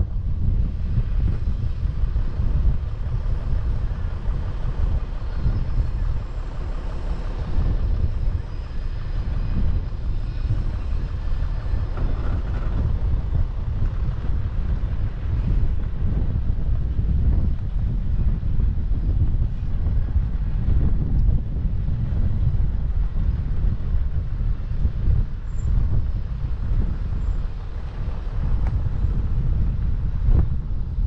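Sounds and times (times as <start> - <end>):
vehicle low rumble: 0.0 - 31.0
wind buffeting microphone: 0.0 - 31.0.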